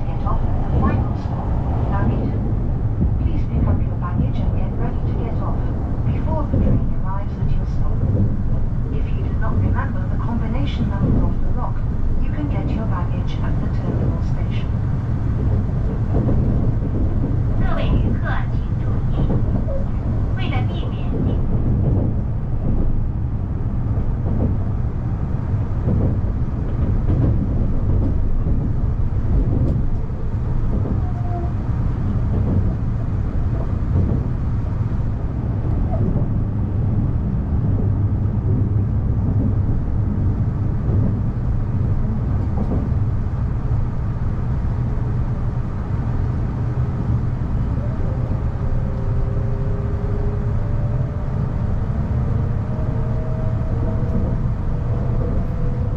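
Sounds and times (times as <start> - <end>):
train rumble inside carriage: 0.0 - 55.9.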